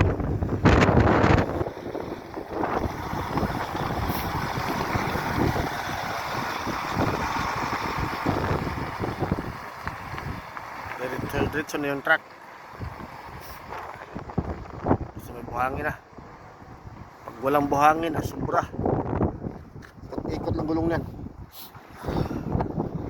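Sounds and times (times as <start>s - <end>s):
wind rumble on microphone: 0.0s - 11.8s, 12.7s - 23.0s
truck driving on icy road: 0.0s - 23.0s.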